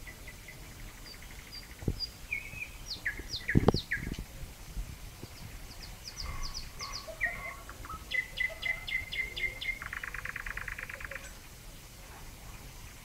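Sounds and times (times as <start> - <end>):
nightingale singing: 0.0 - 4.3, 5.1 - 11.4.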